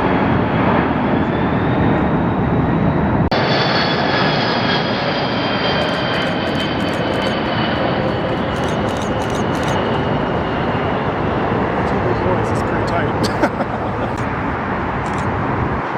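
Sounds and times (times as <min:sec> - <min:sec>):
jet engine roar with whine: 0:00.0 - 0:15.9.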